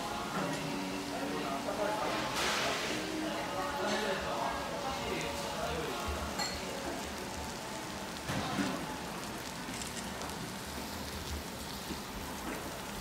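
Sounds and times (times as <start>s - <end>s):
steak sizzling on hot plate: 0.0s - 13.0s.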